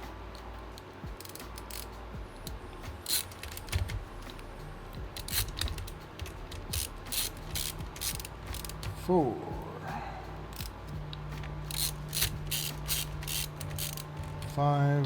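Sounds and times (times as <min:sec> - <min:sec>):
screwdriver clicking: 0:00.8 - 0:09.0, 0:10.6 - 0:14.6.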